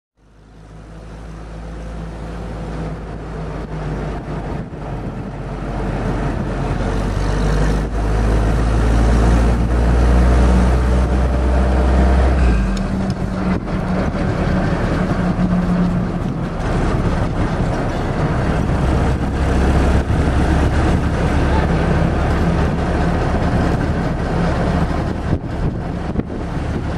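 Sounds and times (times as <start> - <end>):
car engine running: 0.2 - 26.9
road noise: 0.2 - 26.9
wind: 0.2 - 26.9.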